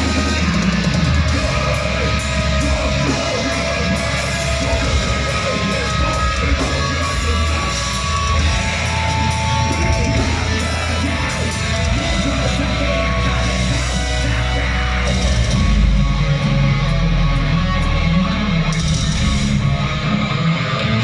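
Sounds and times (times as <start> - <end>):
heavy metal band playing live: 0.0 - 21.0.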